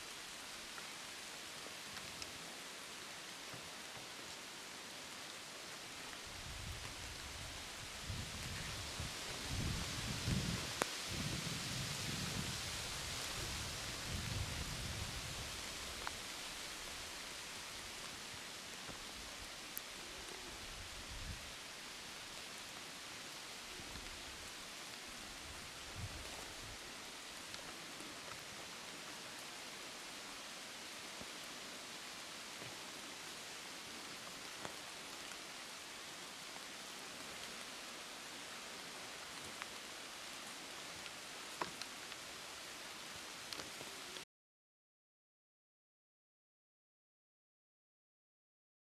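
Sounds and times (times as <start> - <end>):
rain falling in woods: 0.0 - 44.2.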